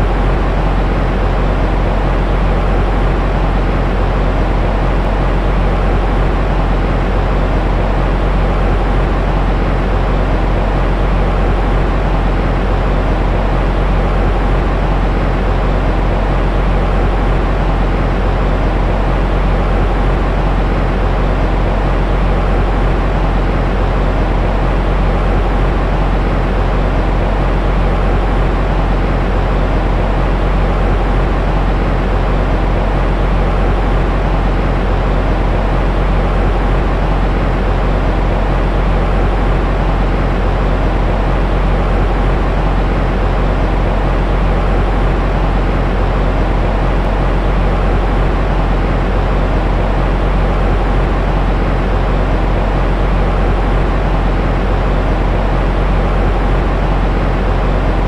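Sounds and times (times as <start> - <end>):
deep rumbling white noise: 0.0 - 58.0.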